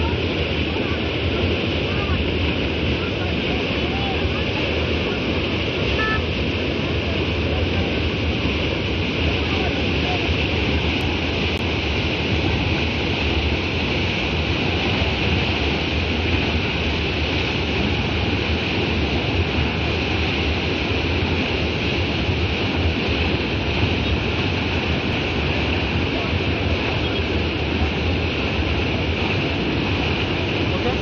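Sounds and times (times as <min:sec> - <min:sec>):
floodwater rushing: 0:00.0 - 0:31.0
low rumble: 0:00.0 - 0:31.0.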